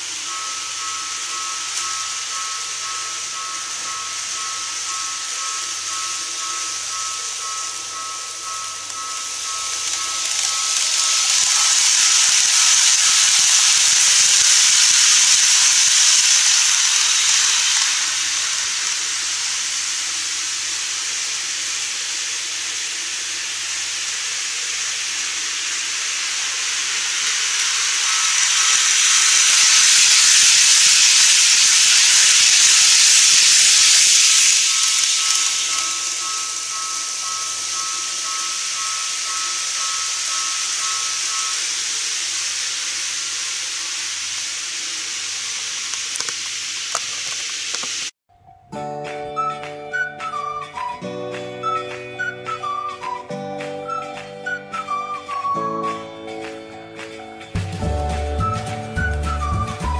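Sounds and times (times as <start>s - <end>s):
model trains hissing on track: 0.0s - 48.2s, 49.6s - 59.9s.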